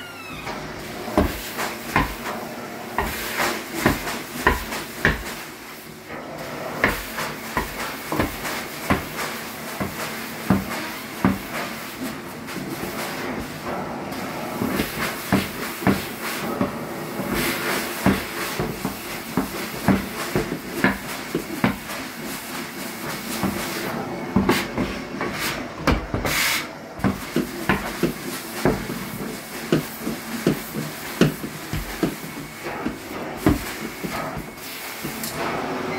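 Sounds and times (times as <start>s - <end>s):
carpet cleaner suction hiss: 0.0s - 35.9s.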